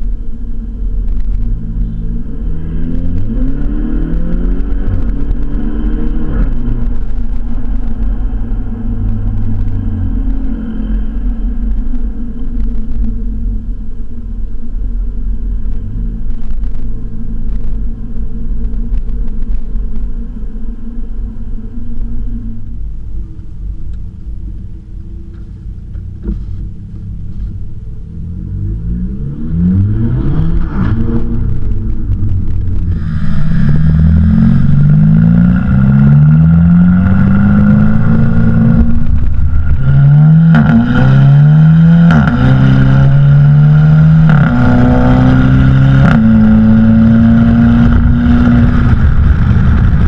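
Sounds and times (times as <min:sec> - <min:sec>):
car engine accelerating: 0:00.0 - 0:50.0.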